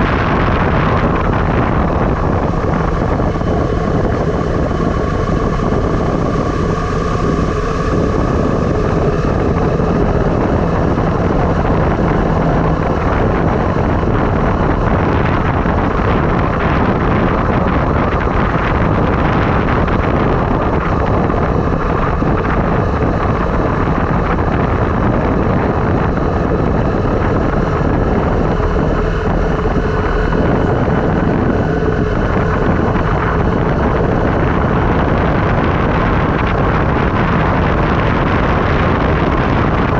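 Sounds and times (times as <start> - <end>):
road rumble: 0.0 - 39.9
wind buffeting microphone: 0.0 - 39.9.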